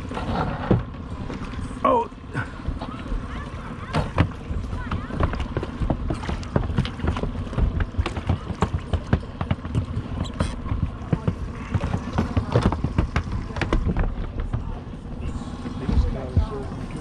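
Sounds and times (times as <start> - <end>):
waves slapping metal hull: 0.0 - 17.0.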